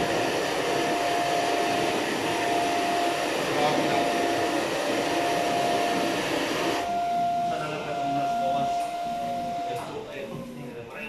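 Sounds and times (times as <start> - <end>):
gas burners roaring: 0.0 - 11.0
thin whine: 0.0 - 11.0.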